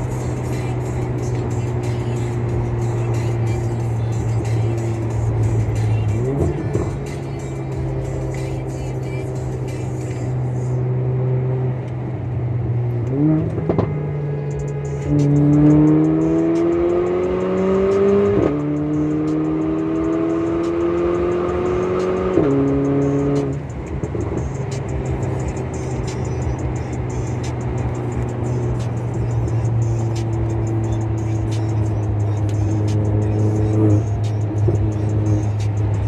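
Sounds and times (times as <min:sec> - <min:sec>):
car engine revving with upshifts: 0:00.0 - 0:36.0.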